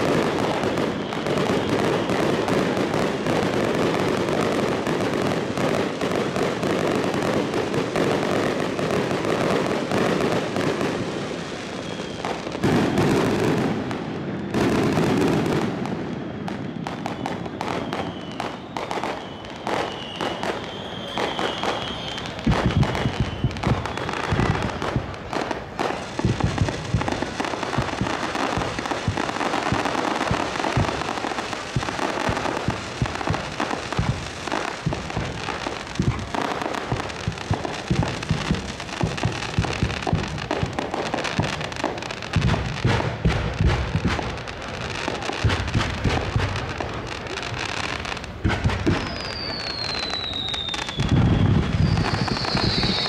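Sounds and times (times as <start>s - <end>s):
falling firework whistle: 0.0s - 53.0s
fireworks banging and crackling: 0.0s - 53.0s.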